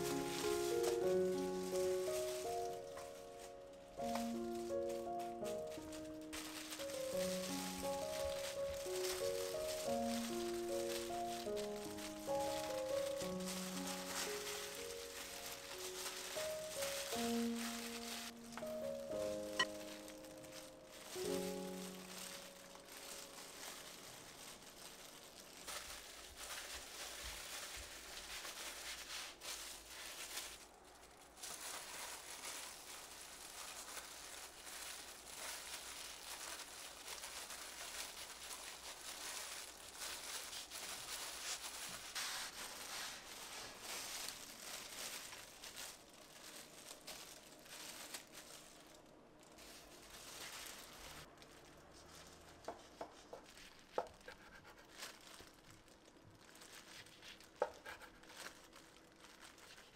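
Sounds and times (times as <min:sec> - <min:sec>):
plastic gloves crinkling: 0:00.0 - 0:59.9.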